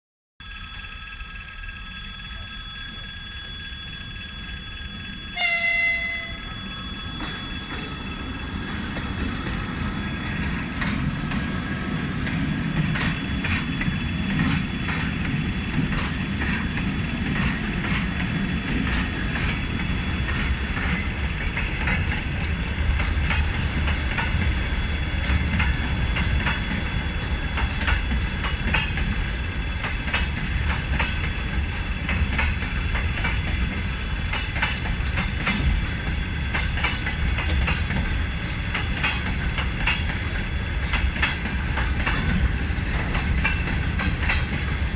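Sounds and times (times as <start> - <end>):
rumble of rolling train wheels: 0.4 - 44.9
wheels clacking over rail joints: 8.7 - 44.9.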